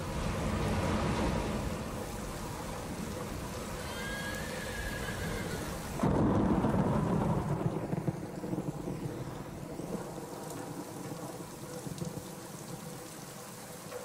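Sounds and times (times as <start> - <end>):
heavy rain: 0.0 - 14.0
thunder clap rumbling: 0.0 - 14.0.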